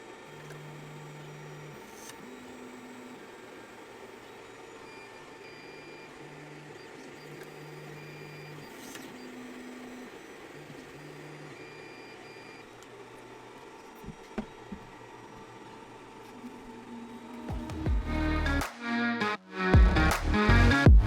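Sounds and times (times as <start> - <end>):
stepper motor whining: 0.0 - 18.7.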